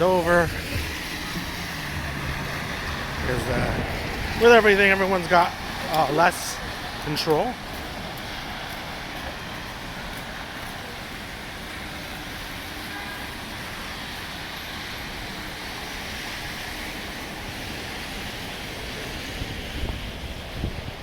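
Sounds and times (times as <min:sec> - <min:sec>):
cars driving on street: 0:00.0 - 0:21.0.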